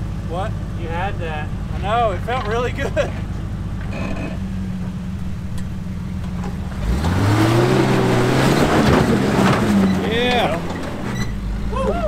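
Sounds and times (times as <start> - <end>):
pickup engine revving under load: 0.0 - 11.8.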